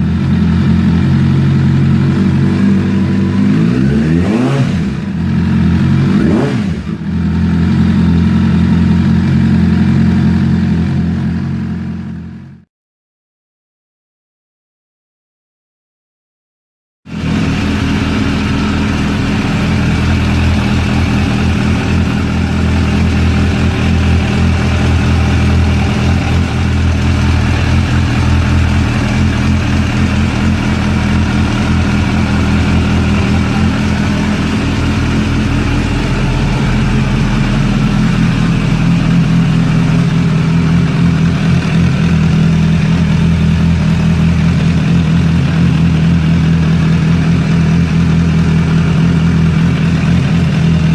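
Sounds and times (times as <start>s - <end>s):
engine clatter: 0.0s - 12.1s, 17.1s - 50.9s
motorcycle engine idling: 0.0s - 12.6s, 17.1s - 50.9s.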